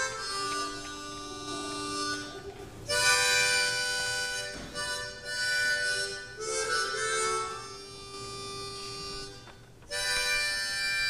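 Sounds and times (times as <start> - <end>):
harmonica playing: 0.0 - 11.0.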